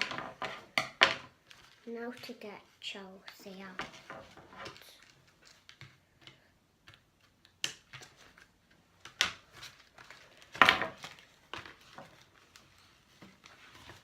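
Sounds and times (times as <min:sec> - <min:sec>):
toy packaging clicks and rustles: 0:00.0 - 0:14.0.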